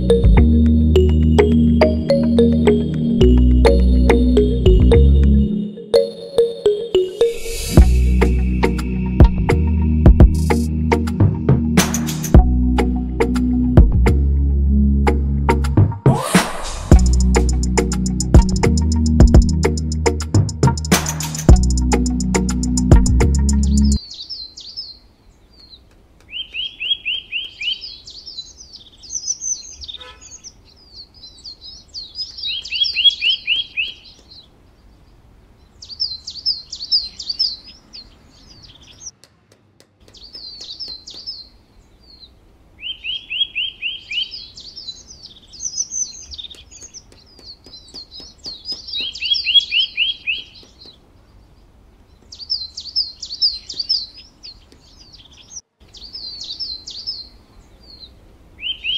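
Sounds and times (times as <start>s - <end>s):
songbirds chirping and trilling: 0.0s - 15.6s, 16.7s - 58.9s.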